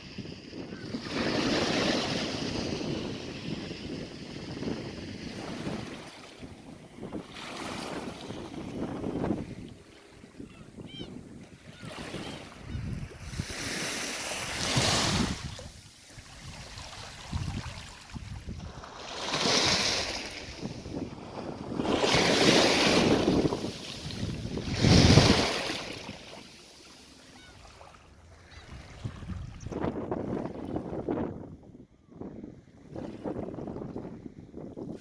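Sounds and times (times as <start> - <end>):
sea waves breaking on shore: 0.3 - 31.2.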